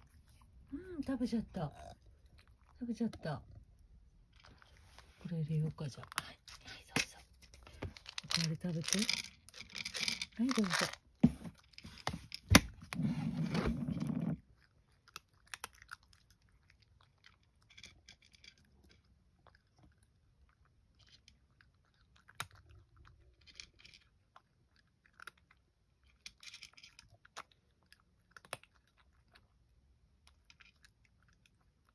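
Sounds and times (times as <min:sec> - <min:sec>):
cat crunching dry kibble: 0:04.2 - 0:31.9.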